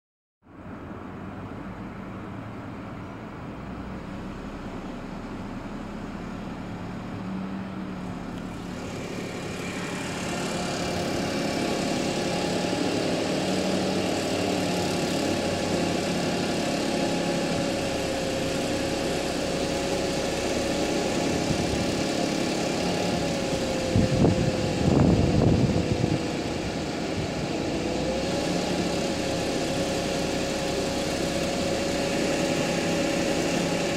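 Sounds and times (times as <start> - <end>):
car engine running: 0.5 - 33.9
supercharger whine: 0.6 - 33.9.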